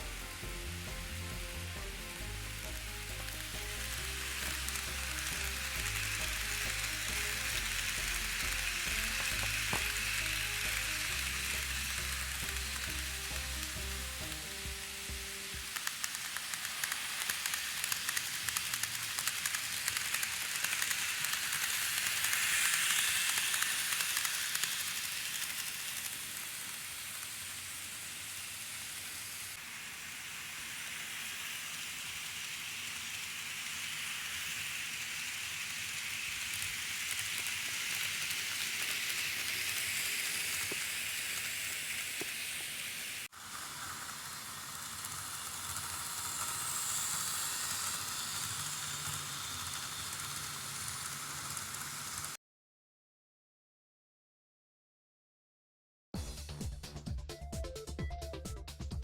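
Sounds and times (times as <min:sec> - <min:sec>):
model train rolling on track: 0:00.0 - 0:52.4.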